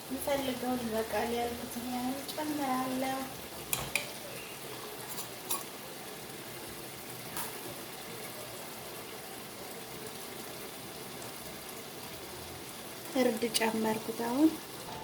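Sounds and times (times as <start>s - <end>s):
peas and onions sizzling in a pot: 0.0s - 15.0s.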